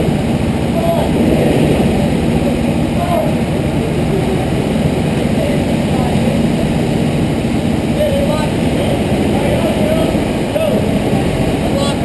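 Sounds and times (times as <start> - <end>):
go-kart engines idling: 0.0 - 12.0
faint voices: 0.6 - 12.0.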